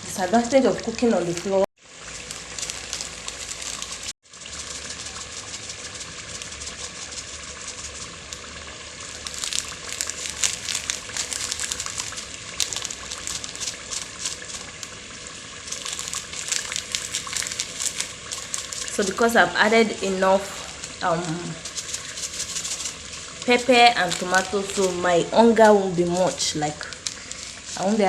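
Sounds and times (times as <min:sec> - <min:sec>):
stew sizzling in oil: 0:01.2 - 0:28.0.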